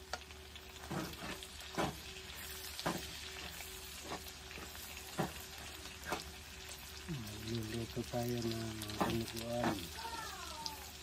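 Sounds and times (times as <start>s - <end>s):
meat and onions sizzling in wok: 0.0s - 11.0s.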